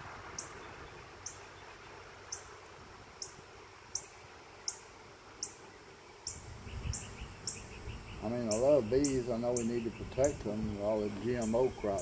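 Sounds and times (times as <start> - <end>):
faint background hiss: 0.0 - 12.0
insect chirping: 0.2 - 12.0.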